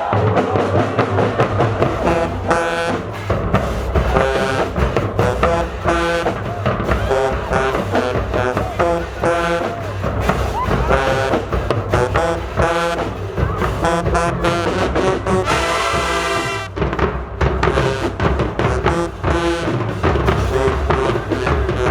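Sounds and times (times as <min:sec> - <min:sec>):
brass section blasting chords: 0:00.0 - 0:21.9
drum strokes: 0:00.0 - 0:21.9.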